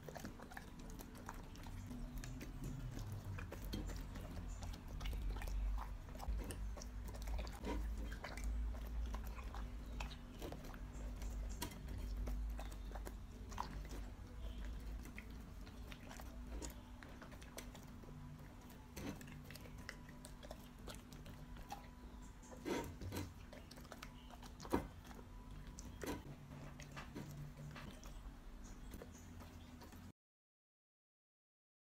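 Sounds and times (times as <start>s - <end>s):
dog chewing vegetables: 0.0s - 30.1s.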